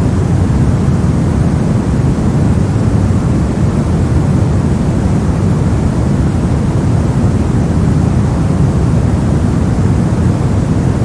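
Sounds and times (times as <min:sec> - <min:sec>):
deep white noise hiss: 0:00.0 - 0:11.0.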